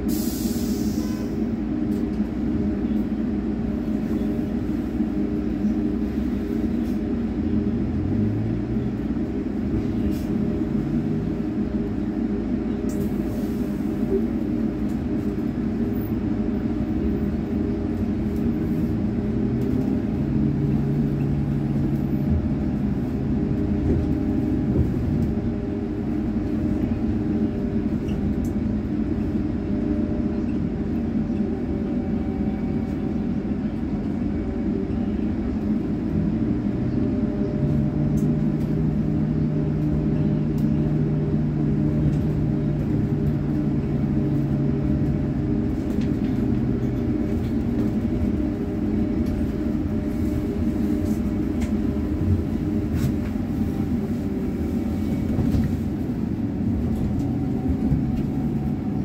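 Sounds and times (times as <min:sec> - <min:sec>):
vehicle interior rumble: 0:00.0 - 0:59.0.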